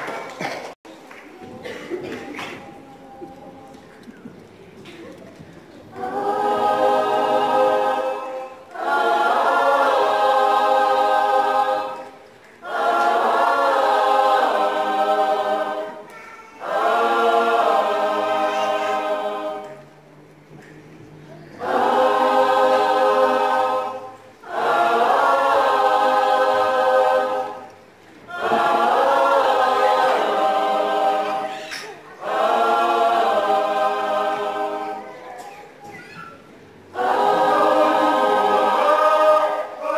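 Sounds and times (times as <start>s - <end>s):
mixed choir singing unaccompanied: 1.4s - 3.8s, 4.8s - 39.9s.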